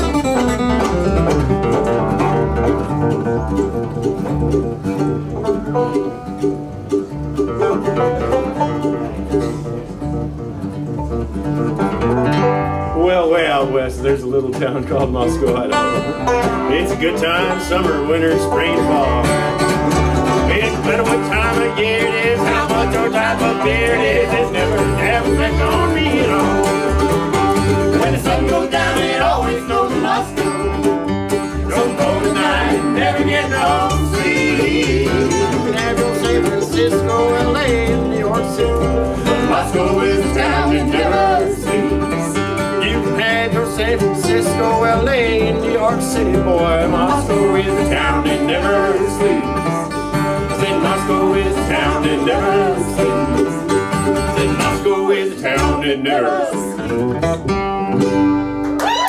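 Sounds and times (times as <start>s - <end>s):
fiddle: 0.0s - 12.7s, 13.4s - 59.0s
banjo: 0.0s - 59.0s
flatpicked acoustic guitar: 0.0s - 59.0s
mandolin: 0.0s - 59.0s
upright bass: 0.0s - 59.0s.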